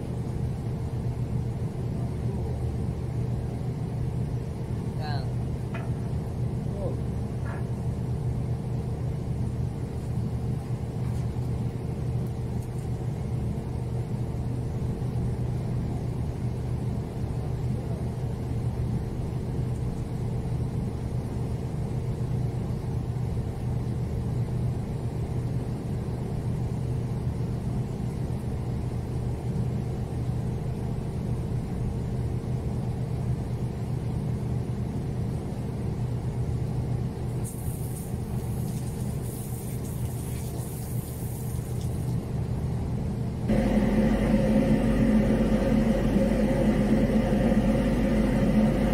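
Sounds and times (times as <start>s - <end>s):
ship engine droning: 0.0s - 37.5s, 42.2s - 48.9s.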